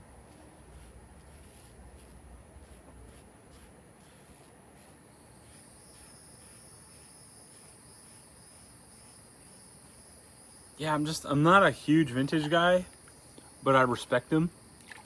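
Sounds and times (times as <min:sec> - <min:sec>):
insect chirring: 0:00.1 - 0:15.0.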